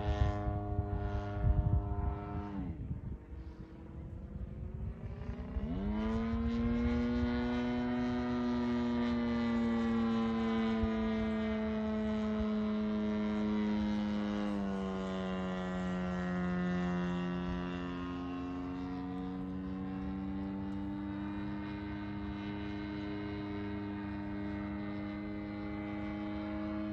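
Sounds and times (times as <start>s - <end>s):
model plane propeller engine: 0.0s - 26.9s.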